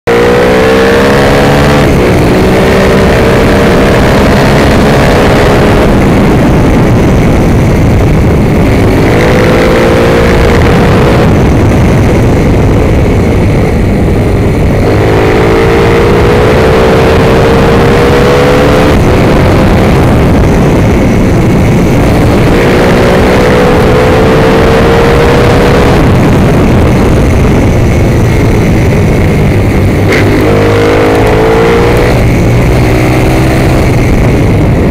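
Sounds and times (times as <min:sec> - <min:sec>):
racing motorcycle engine accelerating: 0:00.0 - 0:34.9
wind rush on microphone: 0:00.1 - 0:34.9.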